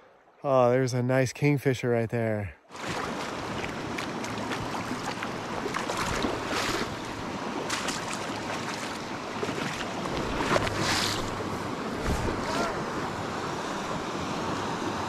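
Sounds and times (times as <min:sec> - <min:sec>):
river water rushing: 0:02.7 - 0:15.0.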